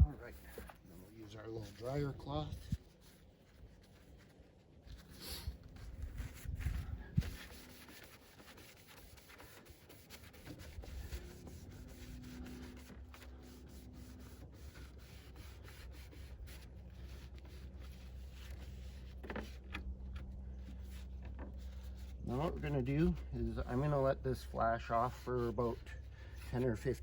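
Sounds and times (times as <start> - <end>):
cloth rubbing on plastic: 0.0 - 19.7, 20.6 - 27.0.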